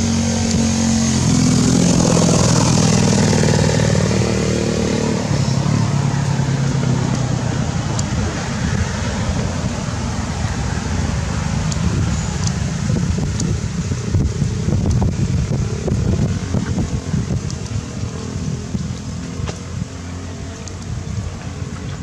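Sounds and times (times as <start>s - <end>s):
motorcycle engine droning: 0.0s - 22.0s
steady rushing noise: 0.0s - 22.0s.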